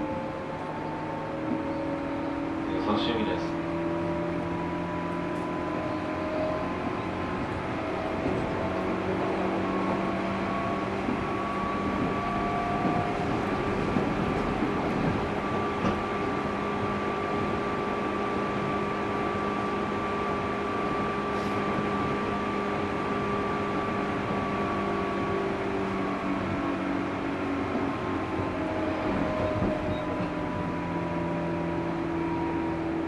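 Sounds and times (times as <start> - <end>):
electric train motor whine: 0.0 - 33.0
wheels rumbling on rail: 0.0 - 33.0.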